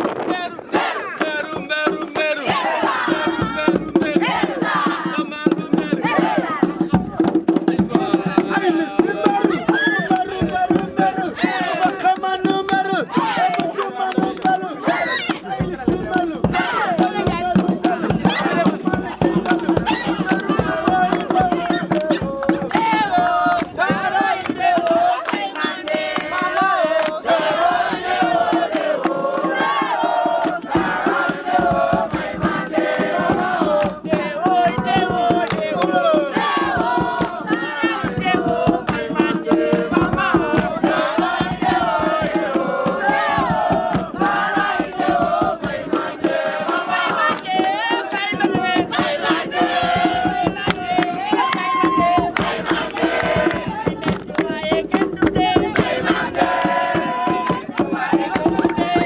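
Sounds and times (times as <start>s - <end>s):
crowd singing and chanting: 0.0s - 59.0s
fast steady beat: 0.0s - 59.0s.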